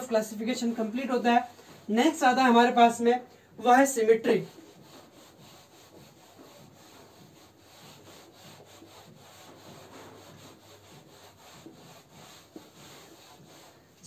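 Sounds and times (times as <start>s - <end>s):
duster rubbing on whiteboard: 0.0s - 14.0s.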